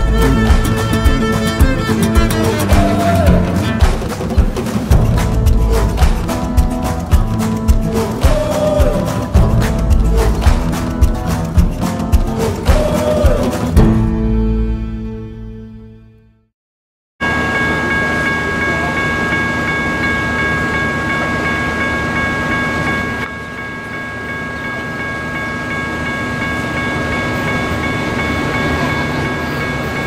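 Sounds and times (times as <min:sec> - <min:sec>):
crossing warning bells ringing: 0:00.0 - 0:13.2, 0:17.2 - 0:30.0.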